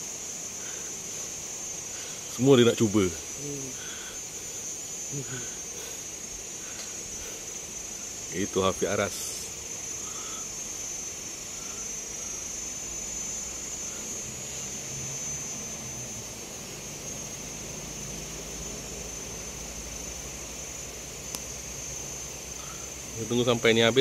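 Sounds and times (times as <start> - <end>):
high-pitched insect buzz: 0.0 - 24.0.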